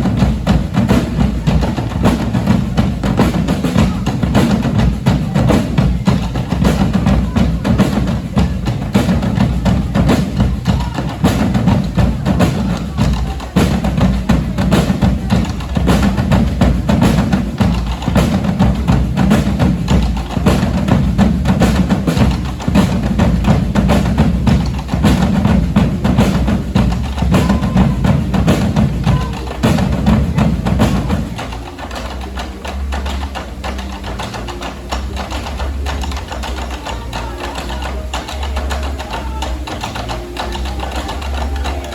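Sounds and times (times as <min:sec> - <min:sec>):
bass drums: 0:00.0 - 0:41.9
higher-pitched drums and blocks: 0:00.0 - 0:41.9
percussion band drumming: 0:00.0 - 0:41.9.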